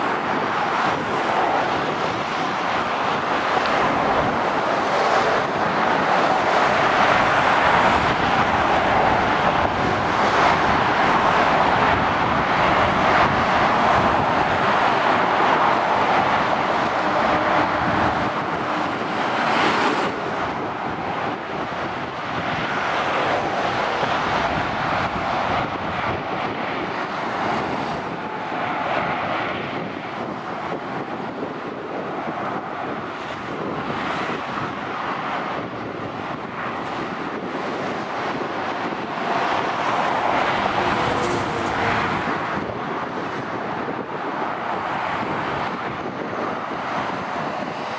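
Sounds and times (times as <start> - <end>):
traffic passing below: 0.0 - 47.9
wind on microphone: 0.0 - 47.9.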